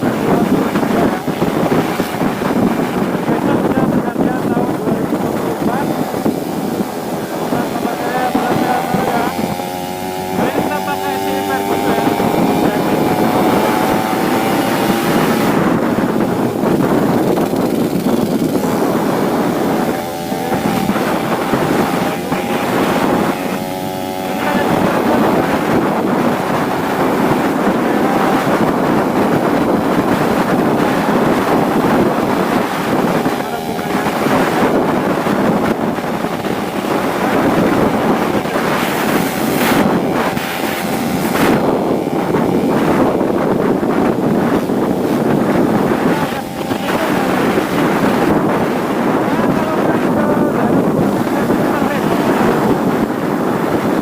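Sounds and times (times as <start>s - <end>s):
two-stroke motorcycle engine: 0.0s - 54.0s
wind noise on microphone: 0.0s - 54.0s.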